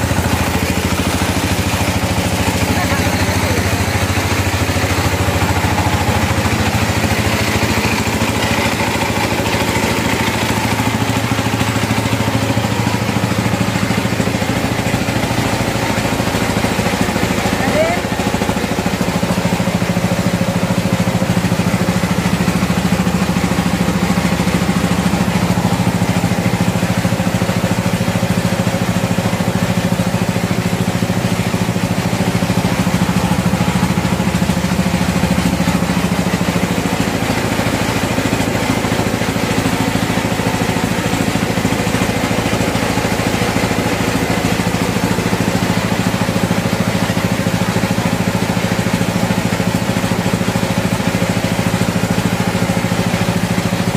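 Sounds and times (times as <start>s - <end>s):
grain mill motor humming: 0.0s - 53.9s.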